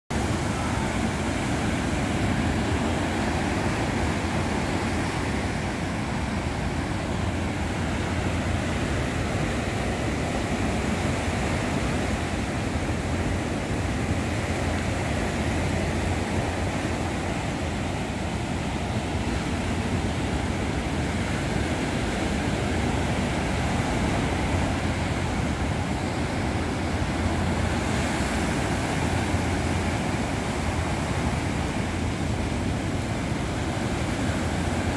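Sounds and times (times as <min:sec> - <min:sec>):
rough sea surf breaking: 0:00.1 - 0:34.9.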